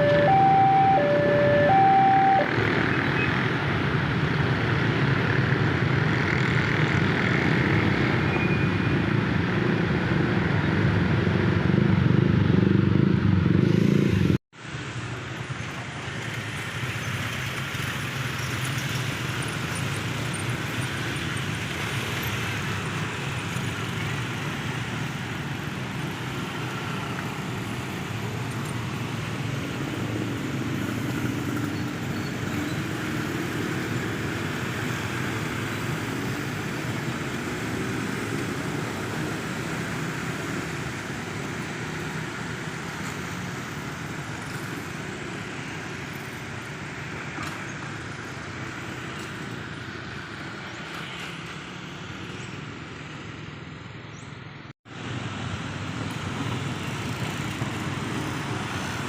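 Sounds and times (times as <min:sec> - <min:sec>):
road traffic: 0:00.0 - 0:59.0.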